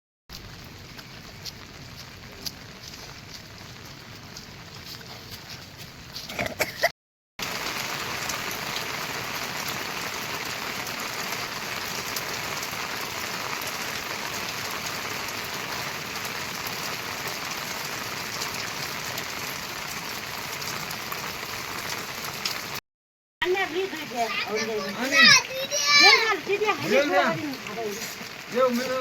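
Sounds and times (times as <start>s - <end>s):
steady rain falling: 0.3s - 6.3s, 7.4s - 22.8s, 23.4s - 29.0s.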